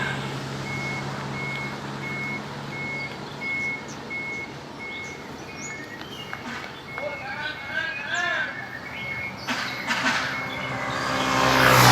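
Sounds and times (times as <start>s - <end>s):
traffic noise: 0.0s - 11.9s
vehicle reversing alarm beeping: 0.0s - 11.9s.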